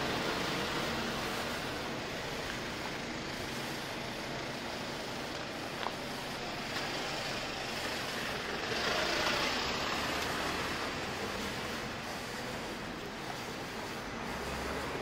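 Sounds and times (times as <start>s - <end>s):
road noise hiss: 0.0s - 15.0s
vehicle passing: 0.0s - 15.0s.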